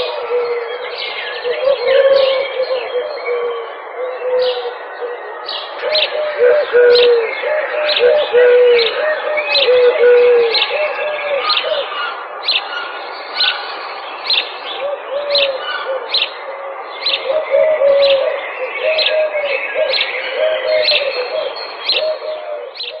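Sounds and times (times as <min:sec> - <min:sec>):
dove cooing: 0:00.0 - 0:12.1, 0:14.8 - 0:23.0.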